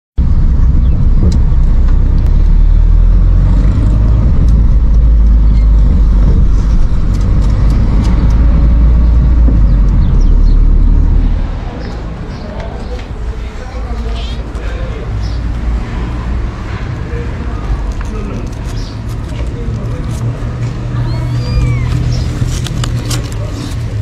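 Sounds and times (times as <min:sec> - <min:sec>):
car engine and road noise: 0:00.2 - 0:24.0.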